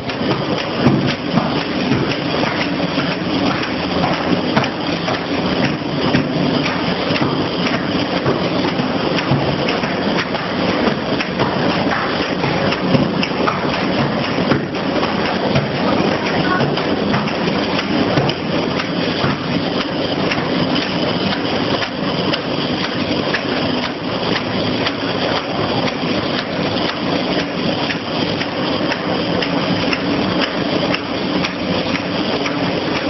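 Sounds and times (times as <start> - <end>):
machine motor hum with clicks: 0.0 - 33.0.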